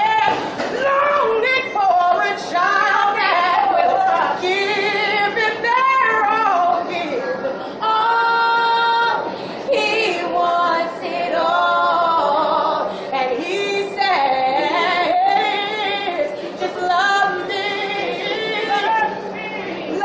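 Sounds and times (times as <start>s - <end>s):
woman singing a cappella: 0.0s - 19.2s.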